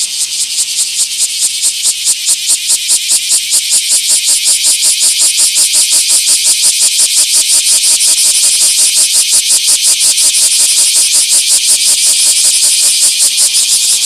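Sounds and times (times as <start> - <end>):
cicada buzzing: 0.0 - 14.0.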